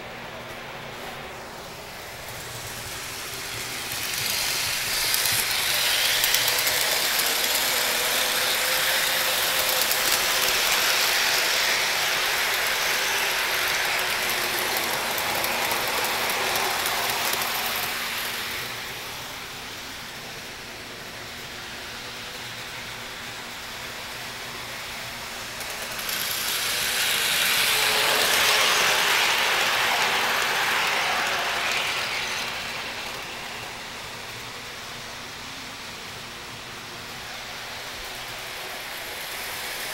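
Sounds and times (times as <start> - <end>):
model trains rolling: 0.0 - 39.9.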